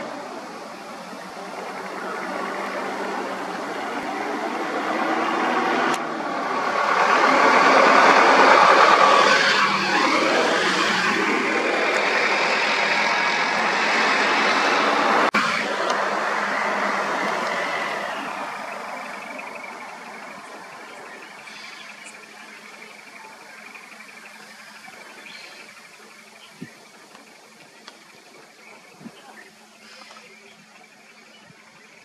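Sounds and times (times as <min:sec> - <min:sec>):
vehicles driving past: 0:00.0 - 0:31.4.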